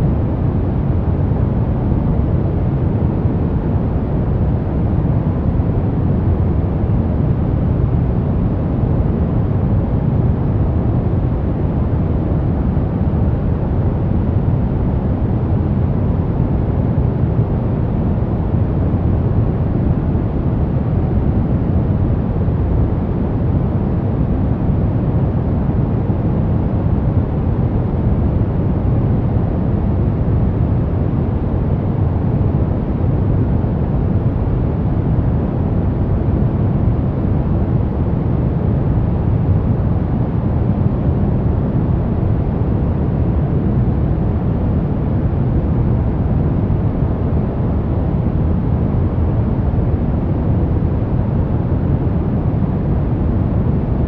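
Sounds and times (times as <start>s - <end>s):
deep white noise: 0.0s - 54.0s.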